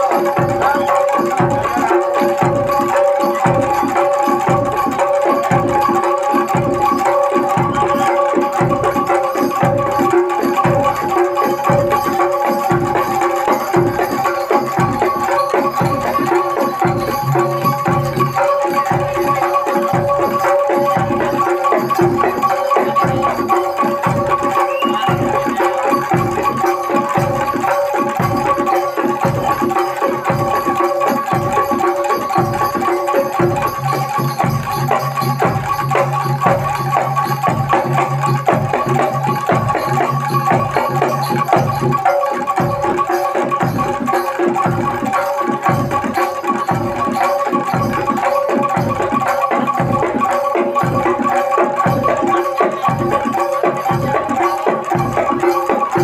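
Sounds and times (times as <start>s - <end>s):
gamelan drums beating: 0.0s - 56.0s
ringing gamelan tones: 0.0s - 56.0s.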